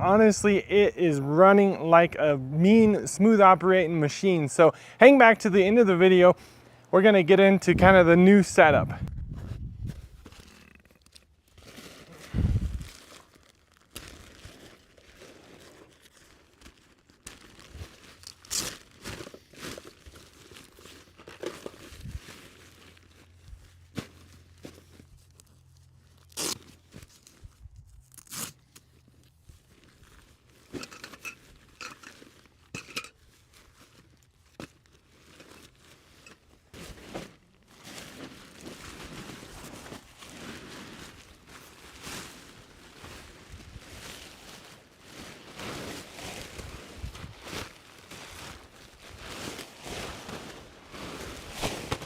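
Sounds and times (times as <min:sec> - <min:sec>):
crinkling and rustling: 0:09.3 - 0:52.0.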